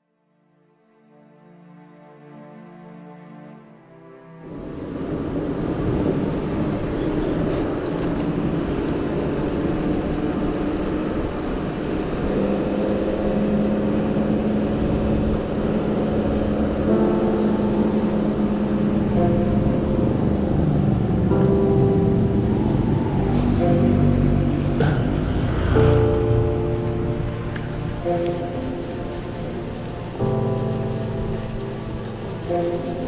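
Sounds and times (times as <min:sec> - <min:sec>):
cars and motorbikes passing: 0:04.4 - 0:33.0
vehicle engine hum: 0:04.5 - 0:33.0.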